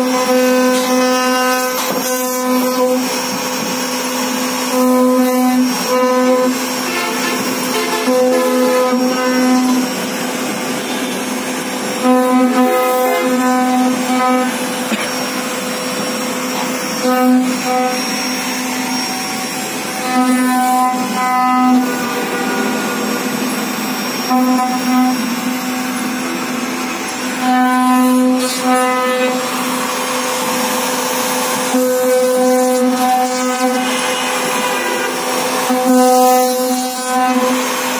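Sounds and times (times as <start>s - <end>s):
hiss of wood cutting: 0.0s - 37.9s
router spindle whine: 0.0s - 37.9s.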